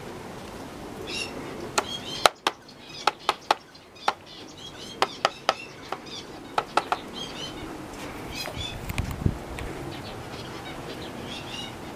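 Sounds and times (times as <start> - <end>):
small birds chirping: 0.3 - 11.9.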